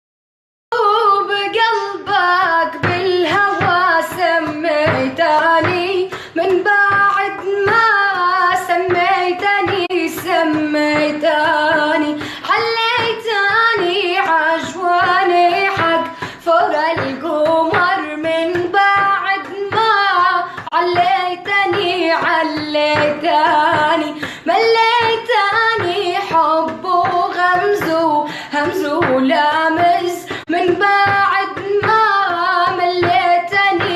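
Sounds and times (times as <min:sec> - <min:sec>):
girl singing: 0:00.7 - 0:33.9.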